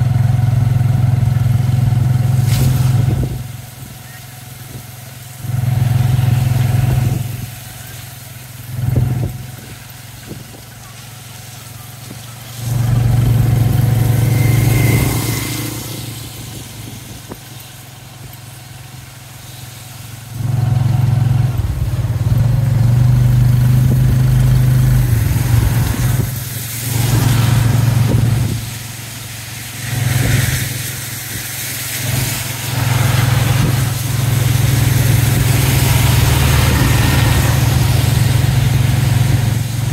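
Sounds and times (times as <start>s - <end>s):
motorcycle engine: 0.0s - 39.9s
tyres hissing on wet road: 0.0s - 39.9s.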